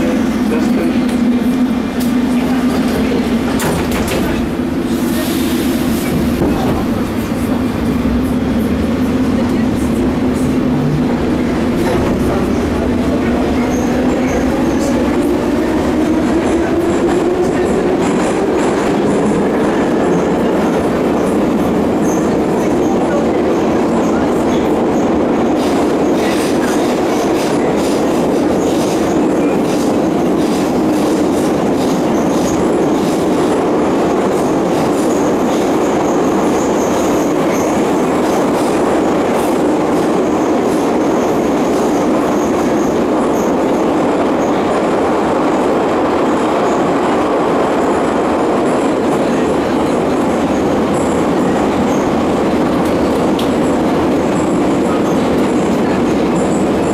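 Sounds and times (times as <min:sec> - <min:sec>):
train running and rail noise: 0:00.0 - 0:56.9.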